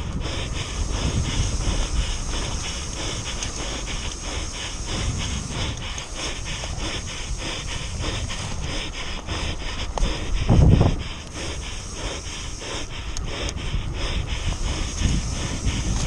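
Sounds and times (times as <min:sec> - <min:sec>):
fast hissing pulses: 0:00.0 - 0:16.0
wind rushing over microphone: 0:00.0 - 0:16.0.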